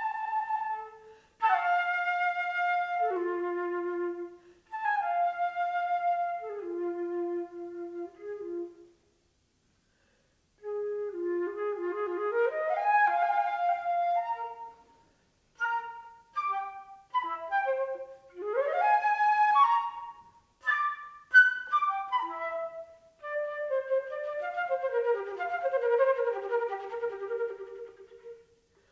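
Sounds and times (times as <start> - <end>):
solo flute playing: 0.0 - 9.1, 10.6 - 28.9.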